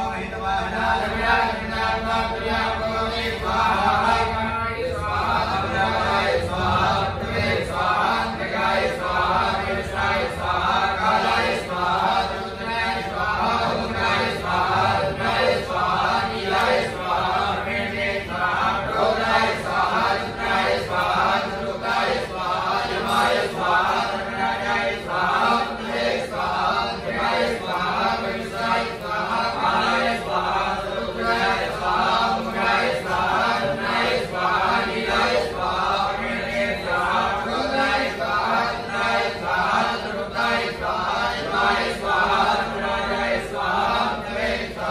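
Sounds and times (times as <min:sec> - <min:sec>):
priests chanting: 0:00.0 - 0:44.9.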